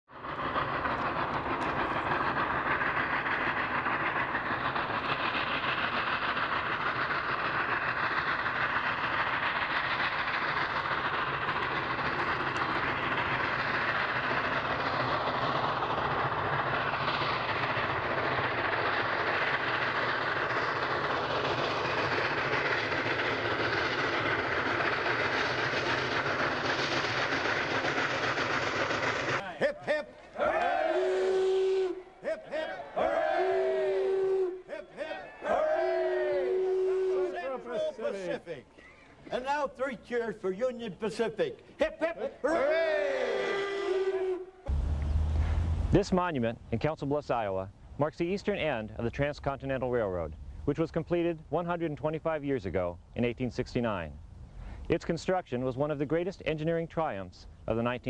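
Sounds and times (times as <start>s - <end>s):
steam locomotive exhaust: 0.1s - 58.0s
train cars rolling on rails: 0.1s - 58.0s.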